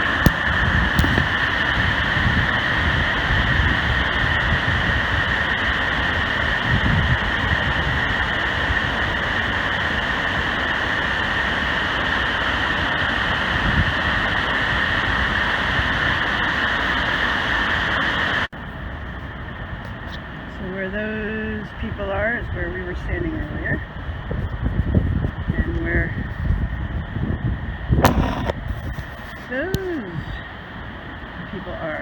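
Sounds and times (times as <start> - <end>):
wind buffeting microphone: 0.0 - 16.6, 18.4 - 32.0.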